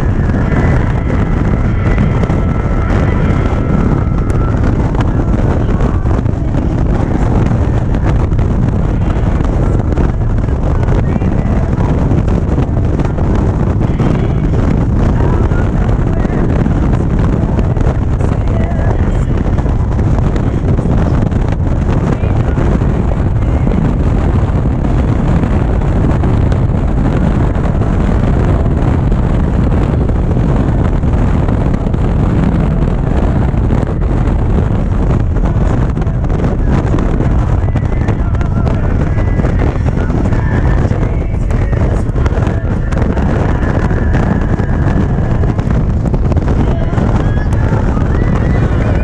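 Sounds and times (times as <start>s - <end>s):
motorcycle engine drone: 0.0s - 49.0s
wind buffeting microphone: 0.0s - 49.0s.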